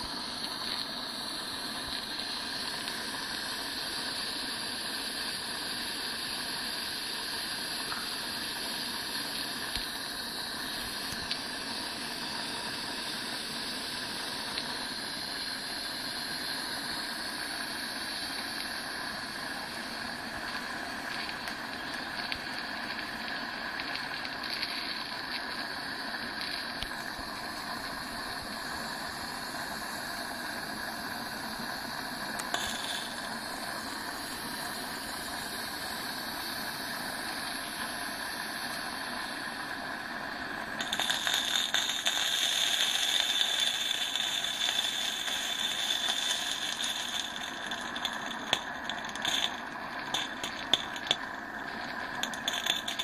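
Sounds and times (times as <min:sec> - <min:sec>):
model steam locomotive hissing: 0:00.0 - 0:53.0.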